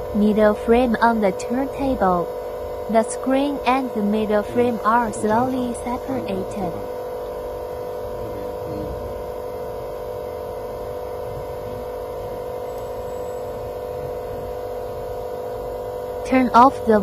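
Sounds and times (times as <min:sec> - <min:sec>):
steady electric machine hum: 0:00.0 - 0:17.0.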